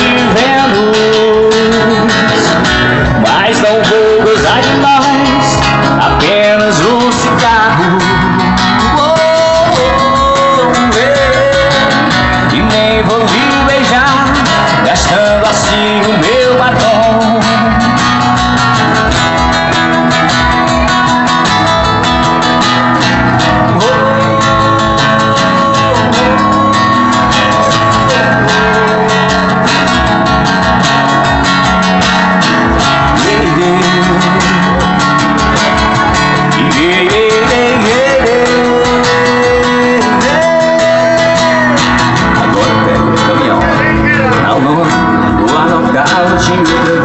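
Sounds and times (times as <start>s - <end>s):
plucked and strummed guitar: 0.0s - 47.0s
sliding lead guitar melody: 0.0s - 47.0s.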